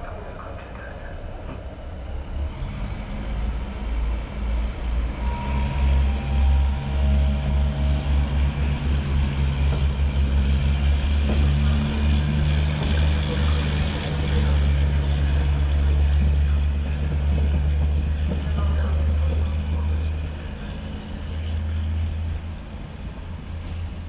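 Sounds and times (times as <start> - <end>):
diesel railcar engine drone: 0.0 - 24.0.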